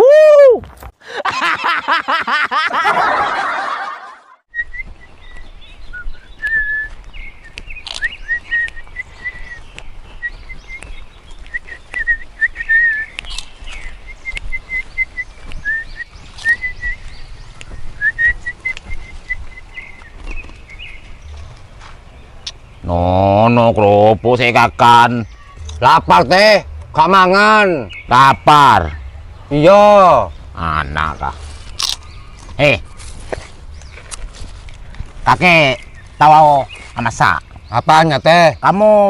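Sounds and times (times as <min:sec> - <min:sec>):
birds chirping: 0:01.6 - 0:39.0.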